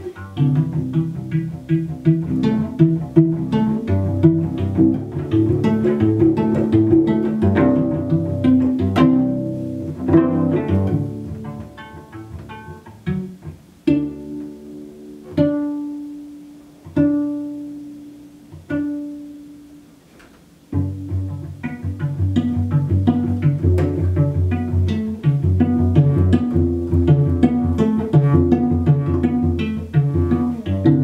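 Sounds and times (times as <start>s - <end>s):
cello plucked pizzicato: 0.0s - 31.0s.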